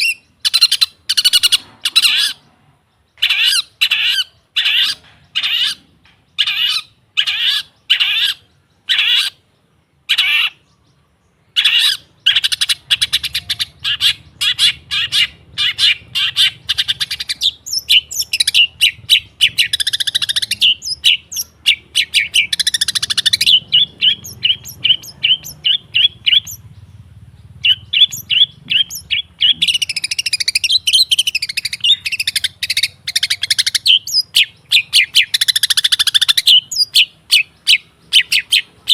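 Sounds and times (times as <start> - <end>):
bird chattering song with trills: 0.0 - 38.9
bird harsh repeated calls: 0.0 - 38.9.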